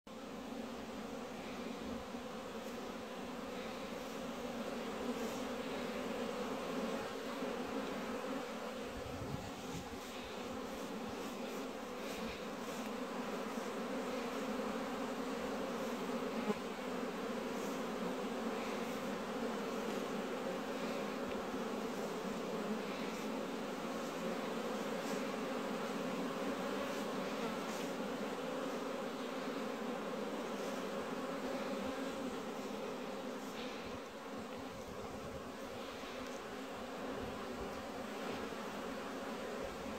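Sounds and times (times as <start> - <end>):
bees buzzing: 0.1 - 39.9.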